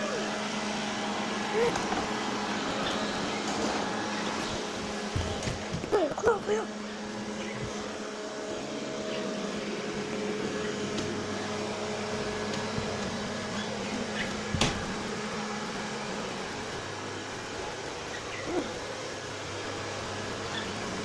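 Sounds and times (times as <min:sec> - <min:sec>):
vacuum cleaner humming: 0:00.0 - 0:21.0.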